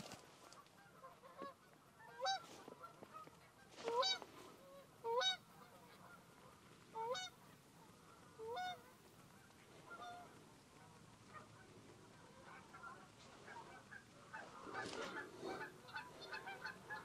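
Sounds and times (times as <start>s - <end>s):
geese honking: 0.3s - 17.0s.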